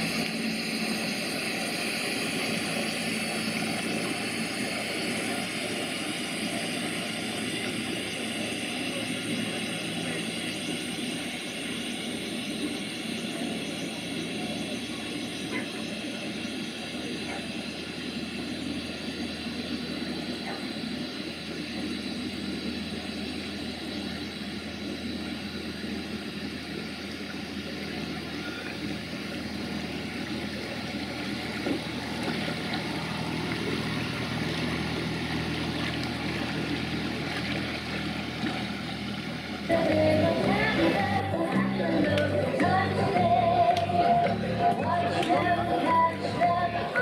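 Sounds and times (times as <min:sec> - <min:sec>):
boat engine running: 0:00.0 - 0:47.0.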